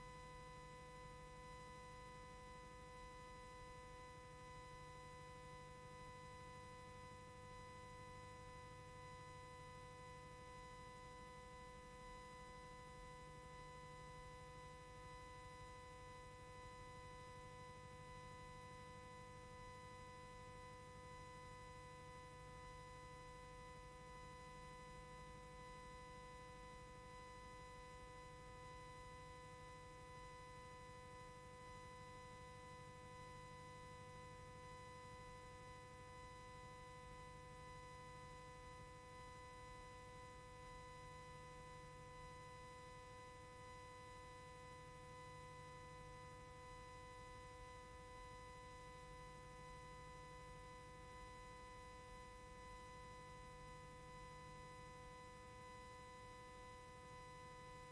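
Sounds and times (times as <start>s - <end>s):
faint hum and hiss: 0.0s - 57.9s.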